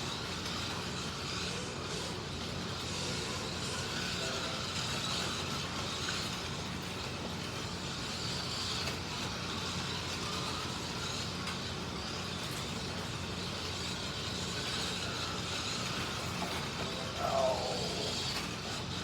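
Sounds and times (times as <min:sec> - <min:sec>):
slot cars rattling over track: 0:00.0 - 0:19.0
small electric motors whining: 0:00.0 - 0:19.0
steady low hum: 0:00.0 - 0:19.0.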